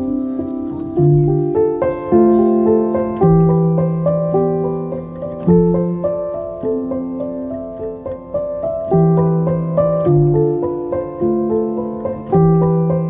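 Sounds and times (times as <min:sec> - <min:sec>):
deep piano bass notes: 0:00.0 - 0:13.0
slow piano melody: 0:00.0 - 0:13.0.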